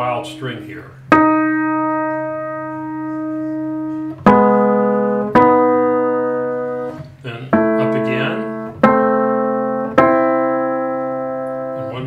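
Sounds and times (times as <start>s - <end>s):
piano note ringing: 0.0s - 12.0s.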